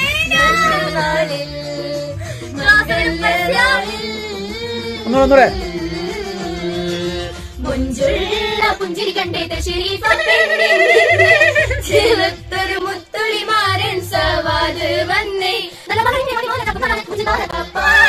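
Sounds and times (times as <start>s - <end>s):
women singing together: 0.0s - 18.0s.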